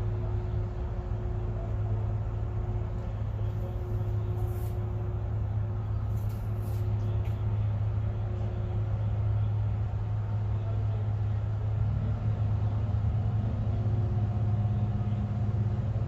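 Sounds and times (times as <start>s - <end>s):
faint steady hum: 0.0s - 16.0s
ship engine droning: 0.0s - 16.0s.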